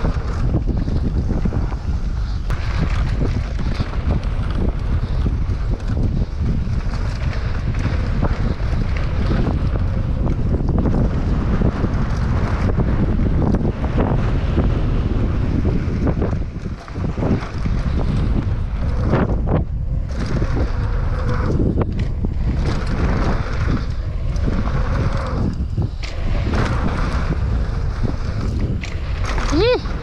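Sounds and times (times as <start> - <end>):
bike frame and chain rattling: 0.0 - 30.0
bike tyres rolling on gravel: 0.0 - 30.0
wind buffeting microphone: 0.0 - 30.0.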